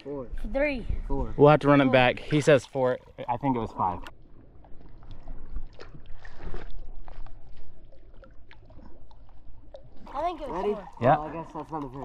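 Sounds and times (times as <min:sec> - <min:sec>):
water lapping and sloshing: 0:01.0 - 0:12.0
light splashes: 0:02.2 - 0:12.0.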